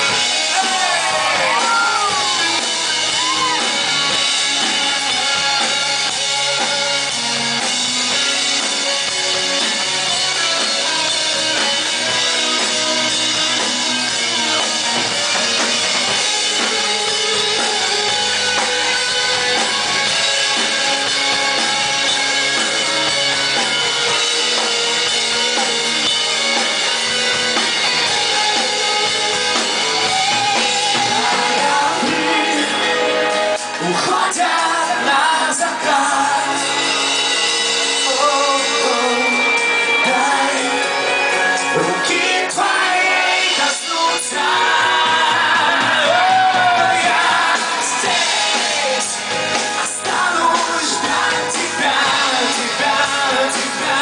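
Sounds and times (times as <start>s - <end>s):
bass guitar: 0.0s - 54.0s
drum kit: 0.0s - 54.0s
rock band playing: 0.0s - 54.0s.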